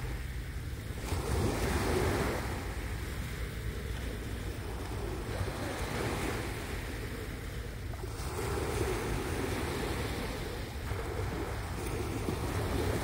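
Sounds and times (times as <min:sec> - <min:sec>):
waves washing onto beach: 0:00.0 - 0:13.0
wind on microphone: 0:00.0 - 0:13.0.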